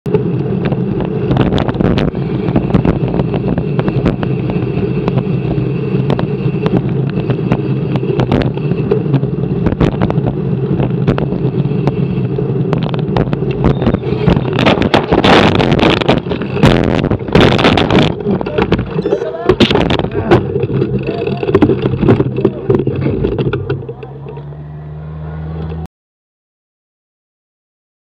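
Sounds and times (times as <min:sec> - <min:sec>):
wind rushing over microphone: 0:00.1 - 0:24.0
bike clicks and rattles: 0:00.1 - 0:24.6.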